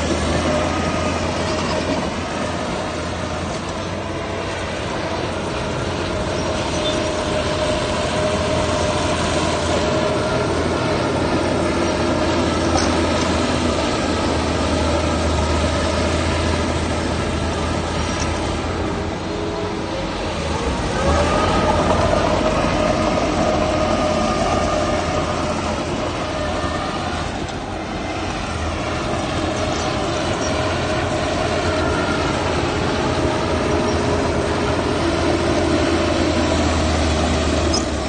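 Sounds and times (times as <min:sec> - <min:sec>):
diesel machinery engine hum: 0:00.0 - 0:38.0.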